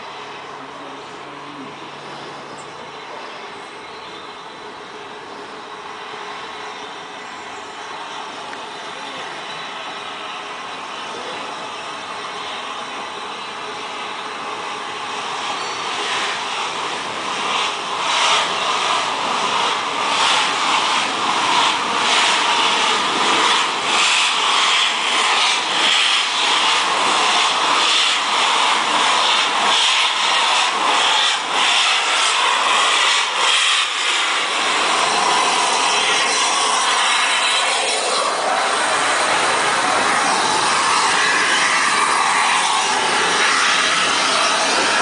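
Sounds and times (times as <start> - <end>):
rush of steam: 0.0 - 45.0
steam locomotive chuffing: 0.0 - 45.0.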